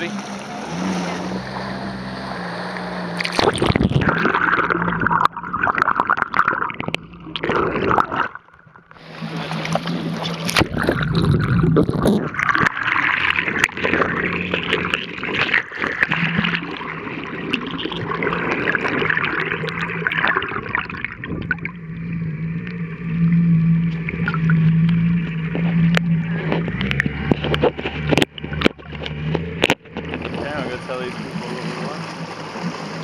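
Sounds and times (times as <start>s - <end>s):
jet ski engine running: 0.0s - 5.1s, 8.9s - 20.4s, 21.2s - 33.0s
water splashing against hull: 0.0s - 33.0s.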